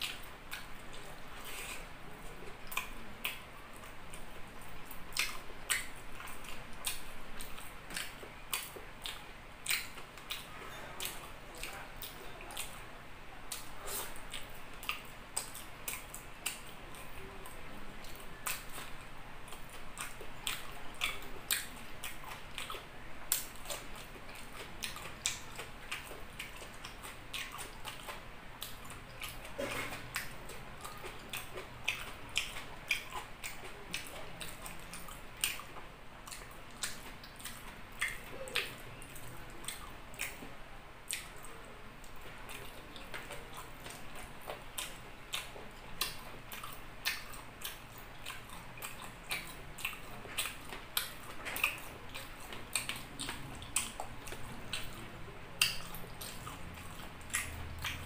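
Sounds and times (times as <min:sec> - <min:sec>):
wet chewing and lip-smacking: 0:00.0 - 0:58.0.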